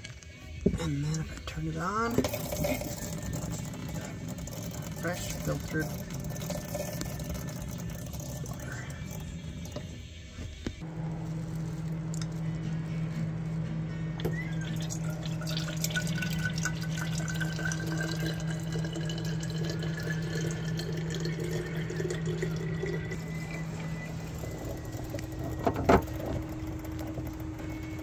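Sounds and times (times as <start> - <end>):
steady hum: 0.0 - 28.0
water running into a container: 0.8 - 10.0, 14.2 - 28.0.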